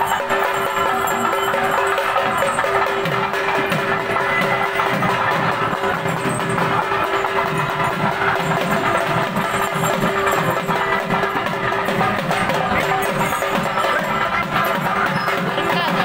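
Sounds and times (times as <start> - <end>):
fast dense percussion: 0.0 - 16.0.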